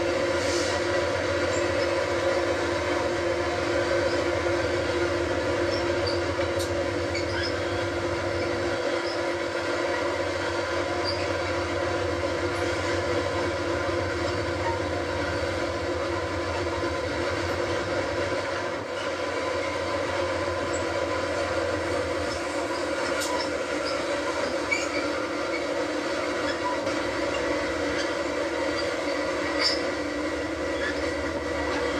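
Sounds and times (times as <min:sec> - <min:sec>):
train rail noise: 0:00.0 - 0:31.9.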